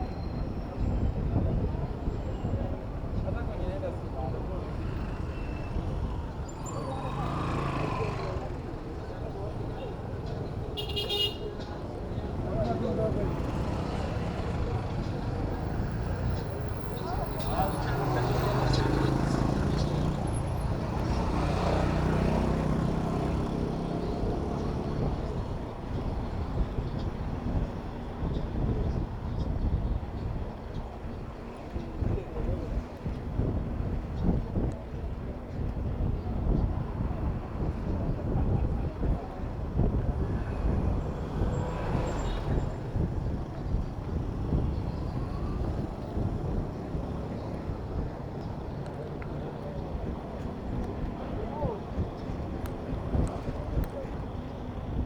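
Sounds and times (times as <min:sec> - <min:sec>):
low uneven traffic rumble: 0:00.0 - 0:55.0.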